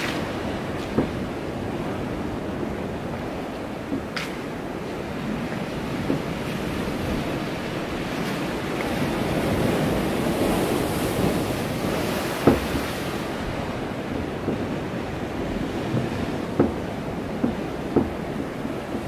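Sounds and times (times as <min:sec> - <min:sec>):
water lapping in a pool: 0:00.0 - 0:19.0.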